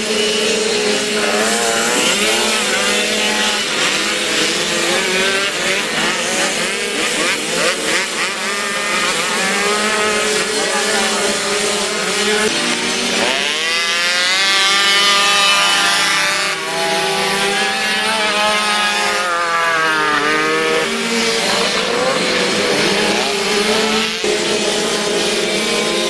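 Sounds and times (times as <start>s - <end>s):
moped engines revving: 0.0s - 26.0s.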